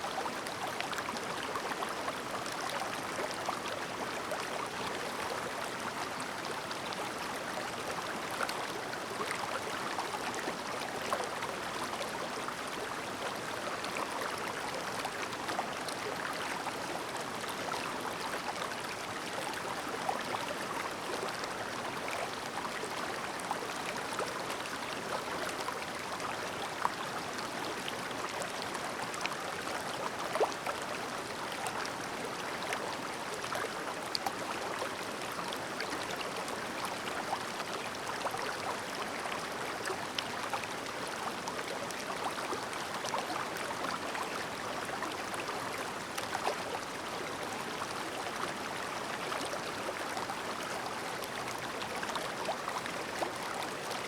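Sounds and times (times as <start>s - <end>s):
river babbling: 0.1s - 54.0s.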